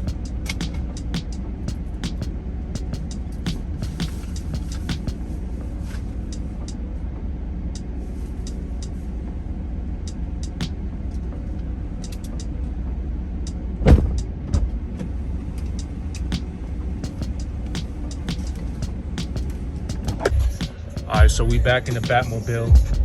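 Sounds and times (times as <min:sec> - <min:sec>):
vehicle idling rumble: 0:00.0 - 0:23.0.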